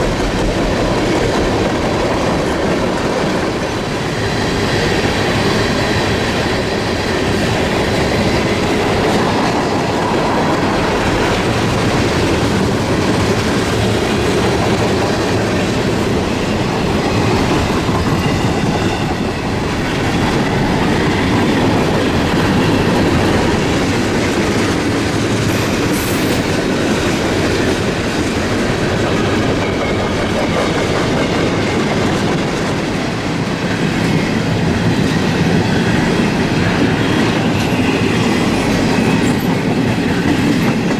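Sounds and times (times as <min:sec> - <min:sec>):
freight train rumble: 0:00.0 - 0:40.9.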